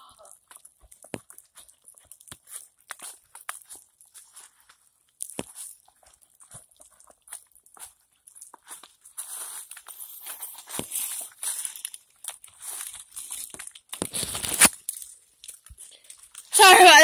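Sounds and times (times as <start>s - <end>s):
rustling against microphone: 0.6s - 16.5s.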